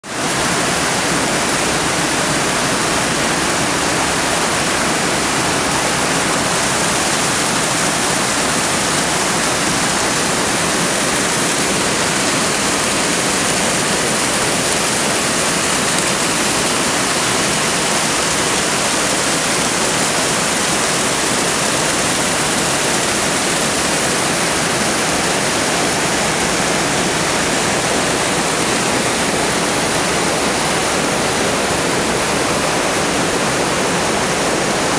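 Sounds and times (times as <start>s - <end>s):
waterfall rushing over boulders: 0.0s - 34.9s.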